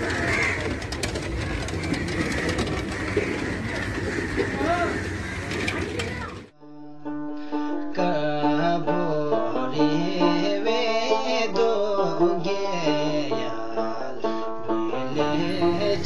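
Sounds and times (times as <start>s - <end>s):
plucked-string melody: 0.0s - 16.0s.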